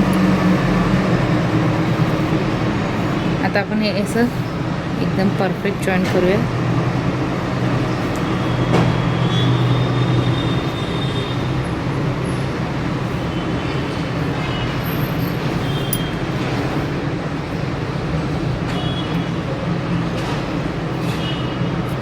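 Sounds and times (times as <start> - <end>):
low mechanical hum: 0.0 - 22.0
noisy rumble: 0.0 - 22.0.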